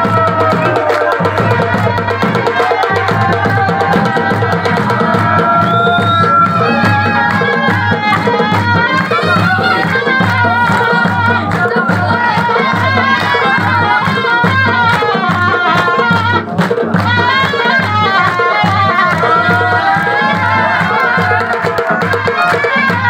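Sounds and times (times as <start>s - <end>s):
dhol drums beating: 0.0s - 23.0s.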